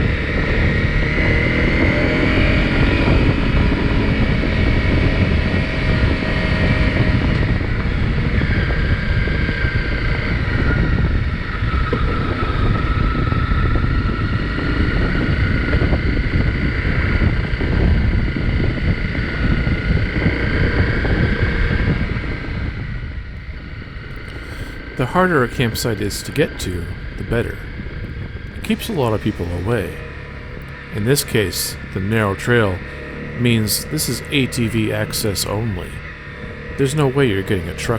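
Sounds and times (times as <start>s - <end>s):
wind buffeting microphone: 0.0s - 33.4s
motorcycle engine running: 0.0s - 37.9s.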